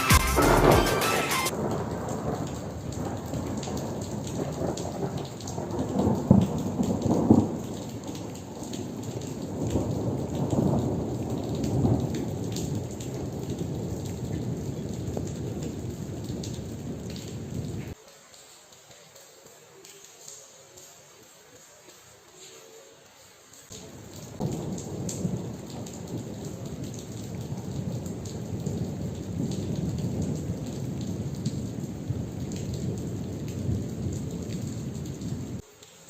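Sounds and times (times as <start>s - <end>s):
rolling thunder: 0.0s - 18.0s, 23.8s - 35.6s
heavy rain falling: 0.0s - 36.0s.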